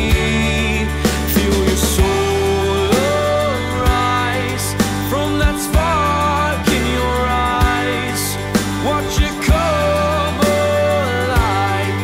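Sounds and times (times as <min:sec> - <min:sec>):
song with bass and drums: 0:00.0 - 0:12.0.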